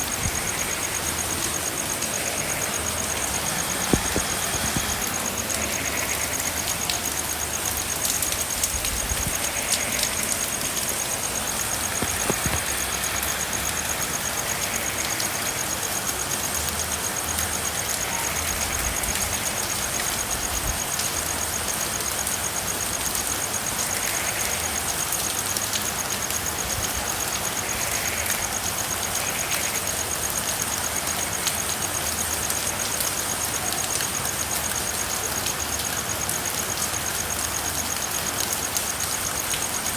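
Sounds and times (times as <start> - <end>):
soft frog calls: 0.0 - 16.4, 17.0 - 39.9
rain falling: 0.0 - 39.9.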